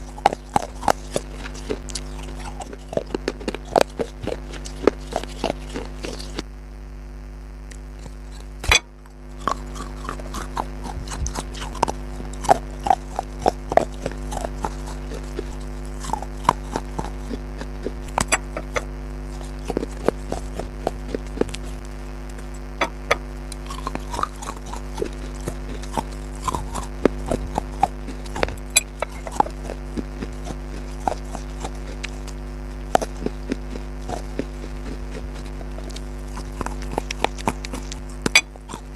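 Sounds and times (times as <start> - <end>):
chewing crunchy food: 0.0 - 6.4, 7.7 - 38.9
steady low hum: 0.0 - 38.9.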